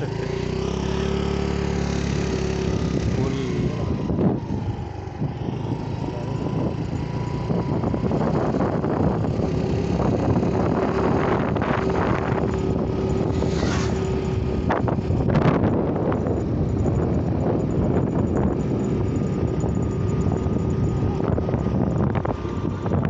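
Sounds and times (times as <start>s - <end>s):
motorbike engine running: 0.0s - 23.0s
wind rushing over microphone: 1.6s - 23.0s.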